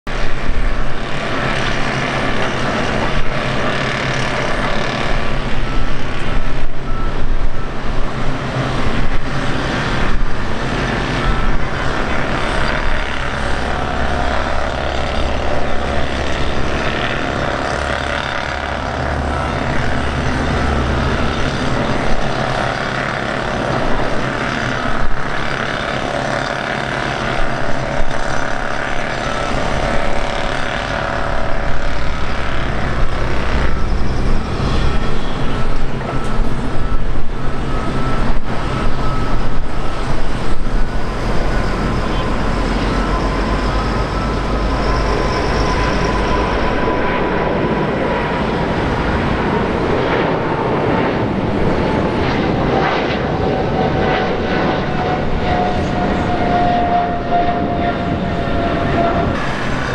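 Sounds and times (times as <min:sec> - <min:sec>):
aircraft engines rushing: 0:00.0 - 0:59.9
faint whining tones: 0:01.3 - 0:59.9.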